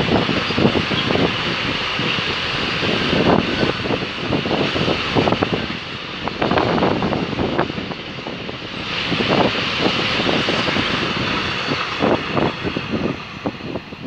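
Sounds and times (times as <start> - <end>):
freight wagons rumbling past: 0.0 - 14.0
wheels clacking over rail joints: 0.0 - 14.0.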